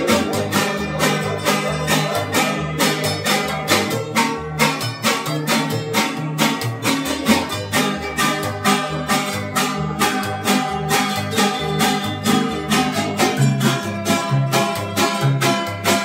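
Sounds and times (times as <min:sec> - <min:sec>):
acoustic guitars strumming: 0:00.0 - 0:16.0
plucked bass line: 0:00.0 - 0:16.0.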